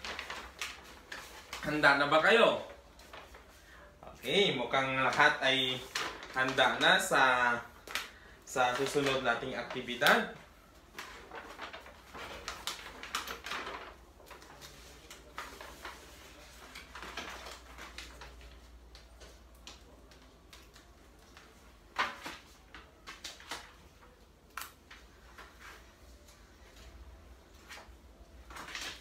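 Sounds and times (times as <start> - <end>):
paper rustling and crackling: 0.0 - 29.0.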